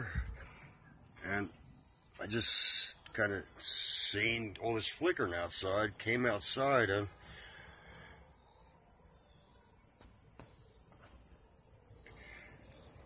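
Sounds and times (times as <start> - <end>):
insects chirping: 0.0 - 13.0
steady high hiss: 0.0 - 13.0.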